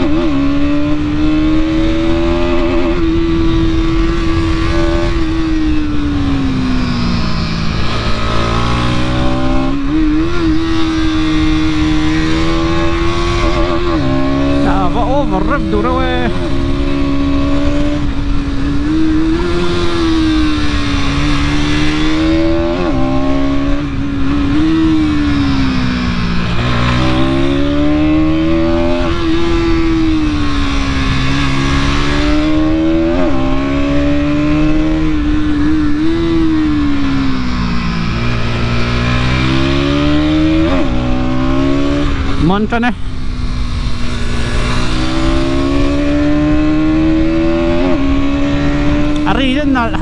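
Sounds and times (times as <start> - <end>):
motorcycle engine revving: 0.0 - 50.0
wind and road noise: 0.0 - 50.0.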